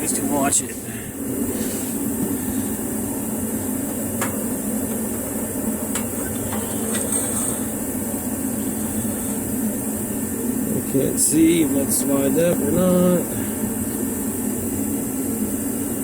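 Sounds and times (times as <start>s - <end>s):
steady background drone: 0.0s - 16.0s.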